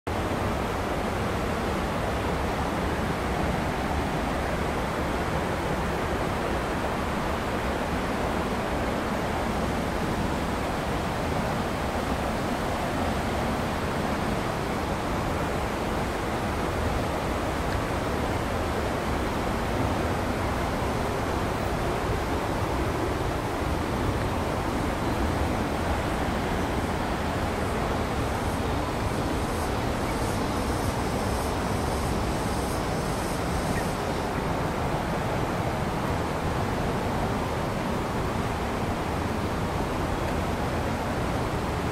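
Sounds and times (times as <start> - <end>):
waterfall rushing: 0.1 - 41.9.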